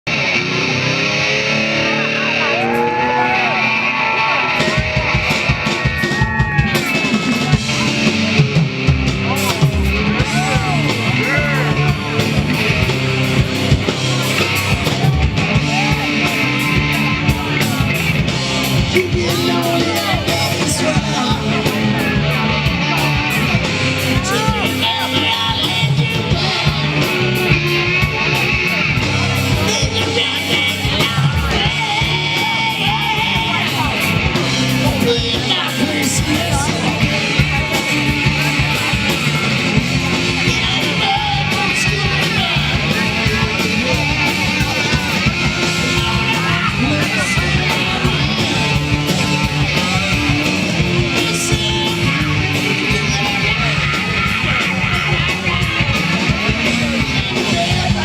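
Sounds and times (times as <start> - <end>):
hard rock band playing: 0.0 - 58.0
singer shouting vocals: 0.1 - 58.0.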